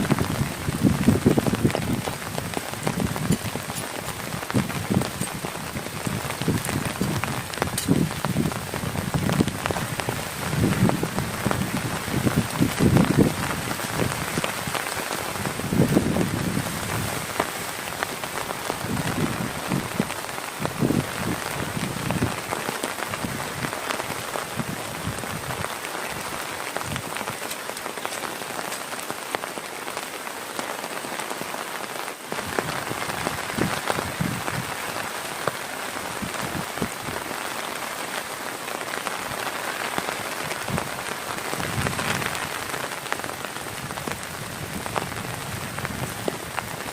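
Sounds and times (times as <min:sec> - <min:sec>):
heavy rain pattering: 0:00.0 - 0:46.9.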